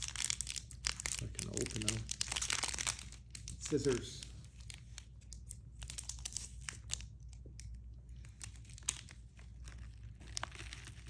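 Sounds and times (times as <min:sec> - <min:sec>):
scissors cutting packet: 0:00.0 - 0:11.0
sweets packet crinkling: 0:00.0 - 0:11.0.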